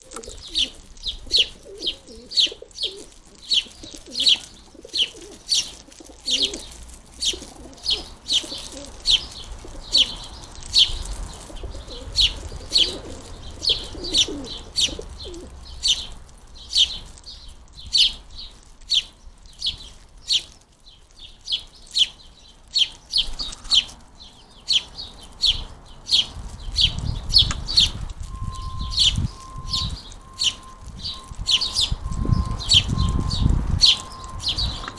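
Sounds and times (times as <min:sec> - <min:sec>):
sparrows chirping: 0:00.0 - 0:34.9.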